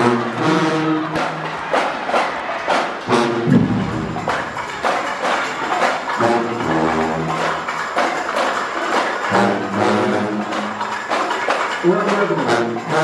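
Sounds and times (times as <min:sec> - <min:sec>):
loud brass chords: 0:00.0 - 0:13.0
marching band drums: 0:00.0 - 0:13.0.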